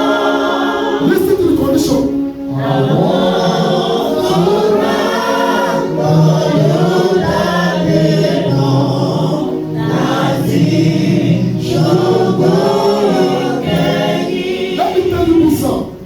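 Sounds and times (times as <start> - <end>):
choir singing a hymn: 0.0 - 16.0
low held notes: 0.0 - 16.0.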